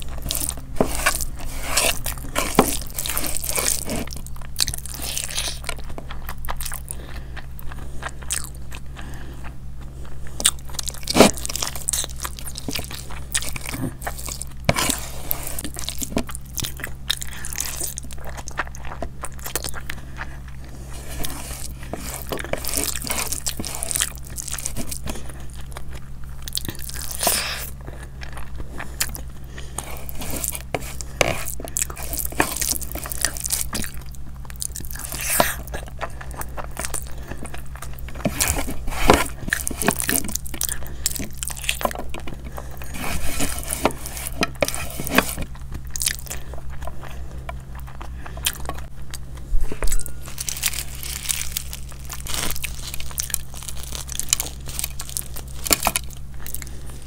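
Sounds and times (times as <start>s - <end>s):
person chewing food: 0.0s - 57.0s
steady low hum: 0.0s - 57.0s.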